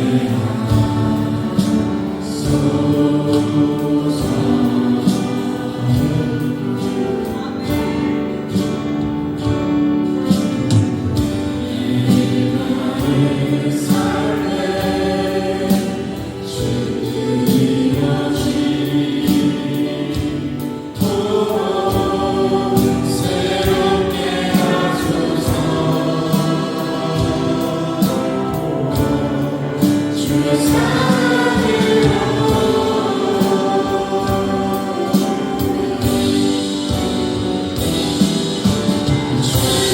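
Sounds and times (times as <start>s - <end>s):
gospel choir singing: 0.0s - 39.9s
instrumental backing with beat: 0.0s - 39.9s.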